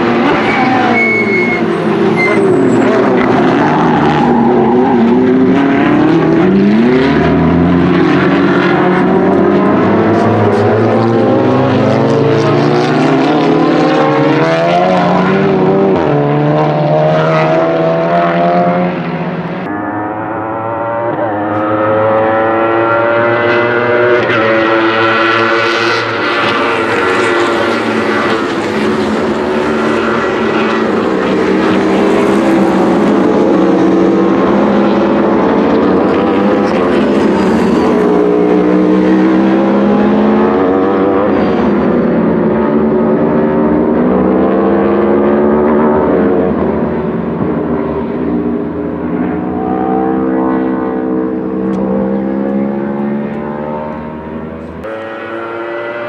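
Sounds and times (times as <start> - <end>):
high engine notes with upshifts: 0.0 - 56.0
racing car engines accelerating: 0.0 - 56.0.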